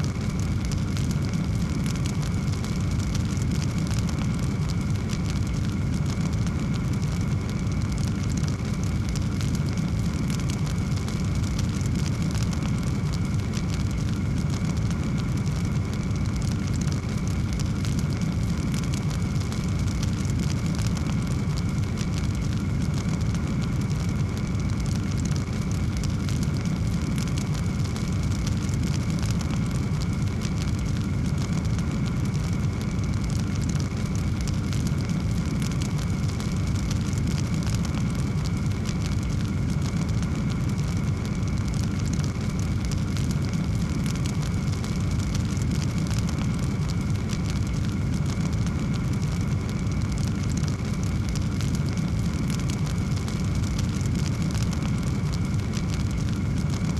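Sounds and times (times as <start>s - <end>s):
fire crackling: 0.0s - 56.9s
fire flames rumbling: 0.0s - 56.9s.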